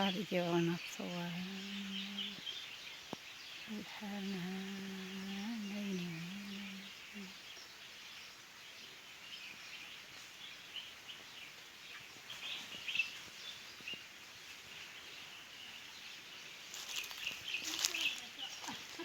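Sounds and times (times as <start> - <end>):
faint steady hiss: 0.0 - 19.0
small birds chirping: 0.0 - 19.0.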